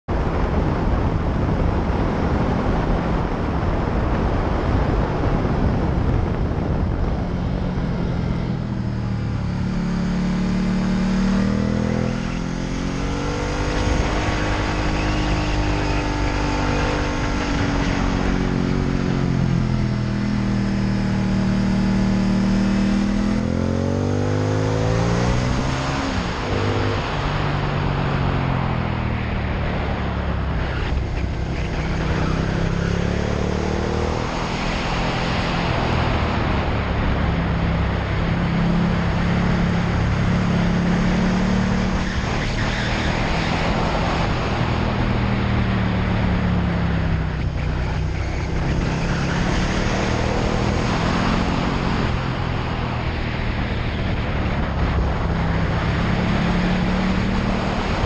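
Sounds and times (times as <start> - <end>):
wind rush on microphone: 0.1 - 58.0
motorcycle engine revving: 1.6 - 58.0.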